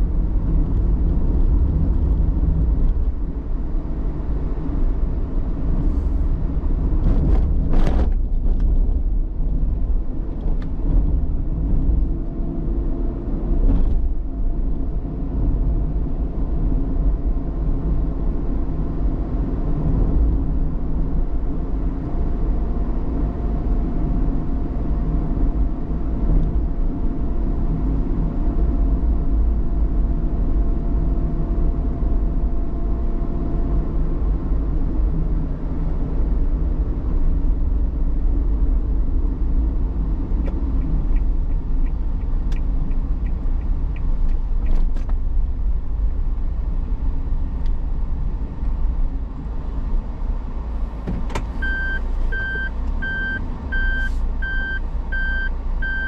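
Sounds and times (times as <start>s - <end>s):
car engine hum: 0.0s - 56.0s
road rumble: 0.0s - 56.0s.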